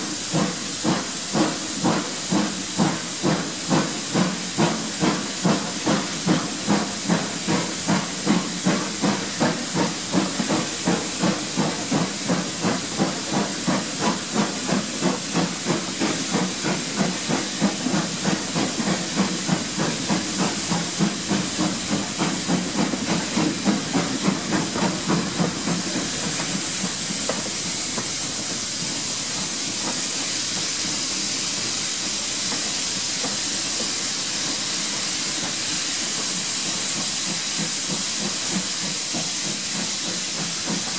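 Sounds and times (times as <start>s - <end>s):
steady hiss of steam: 0.0s - 40.9s
steam locomotive exhaust beats: 0.0s - 40.9s.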